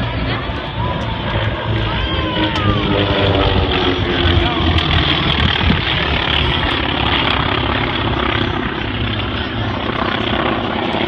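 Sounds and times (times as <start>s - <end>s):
propeller planes droning: 0.0s - 11.0s.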